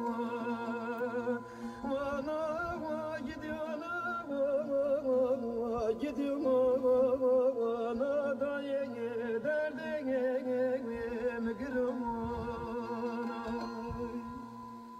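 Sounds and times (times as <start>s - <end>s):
person singing ornamented melody: 0.0s - 14.9s.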